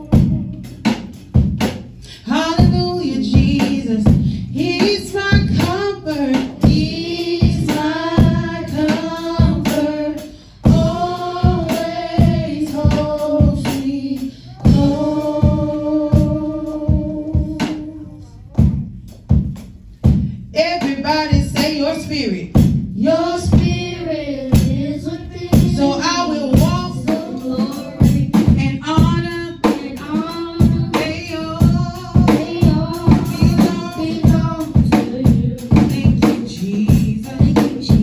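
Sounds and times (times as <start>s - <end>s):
steady beat: 0.0s - 38.0s
woman singing through speaker: 2.2s - 18.3s, 20.6s - 38.0s.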